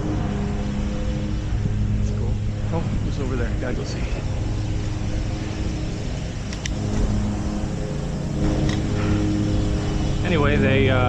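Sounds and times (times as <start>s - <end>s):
steady low hum: 0.0s - 11.0s
wind rushing over microphone: 0.0s - 11.0s.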